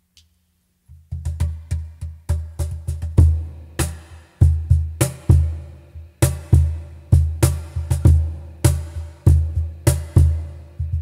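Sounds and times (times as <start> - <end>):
cajon played by hand: 0.9 - 5.6, 6.2 - 11.0.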